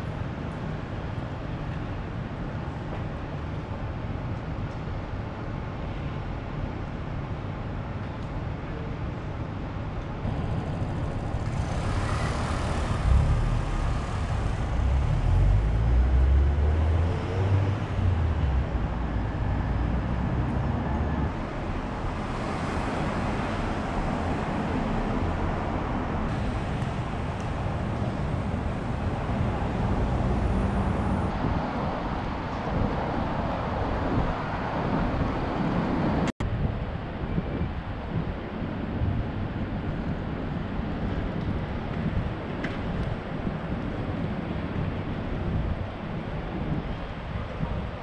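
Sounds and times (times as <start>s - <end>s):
city traffic passing: 0.0s - 48.0s
low rumble of heavy traffic: 0.0s - 48.0s.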